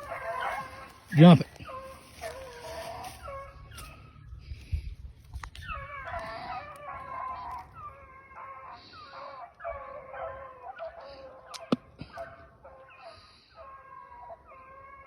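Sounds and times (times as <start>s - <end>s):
hounds yelping and baying: 0.0s - 15.0s.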